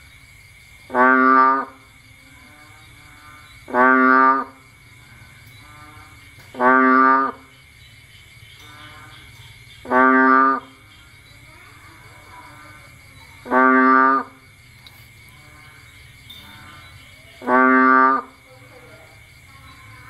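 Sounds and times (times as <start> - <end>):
chorus of night insects: 0.0 - 20.0
bullfrog calling: 0.9 - 20.0.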